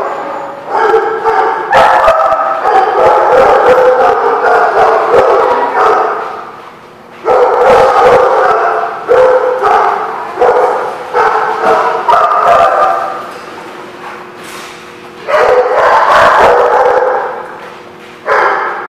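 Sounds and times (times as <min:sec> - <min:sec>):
dogs barking: 0:00.0 - 0:06.6, 0:07.2 - 0:13.4, 0:15.1 - 0:18.9.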